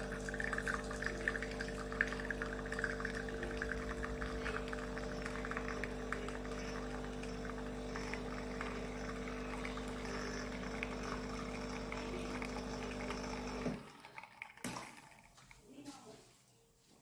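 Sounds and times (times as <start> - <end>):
espresso machine pump humming: 0.0 - 15.1.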